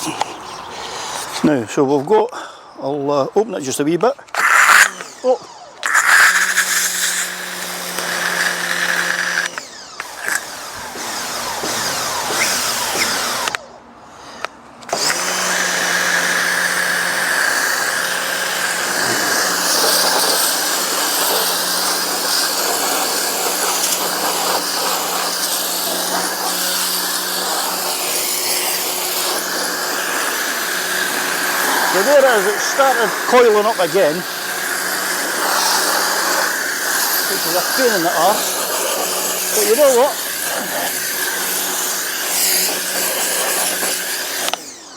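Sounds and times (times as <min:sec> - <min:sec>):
pressure washer motor hum: 0:04.3 - 0:13.6, 0:14.8 - 0:44.9
water jet hissing: 0:05.8 - 0:13.4, 0:14.9 - 0:44.5.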